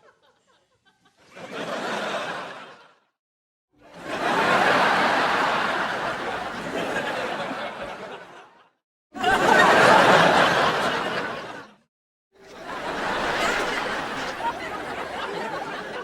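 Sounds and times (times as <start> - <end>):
studio audience laughing: 0.0 - 3.0, 3.9 - 11.8, 12.4 - 16.0.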